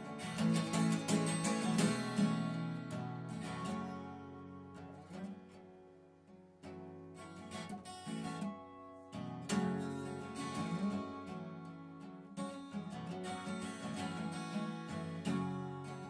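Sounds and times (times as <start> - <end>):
acoustic guitar slow chords: 0.0 - 16.0.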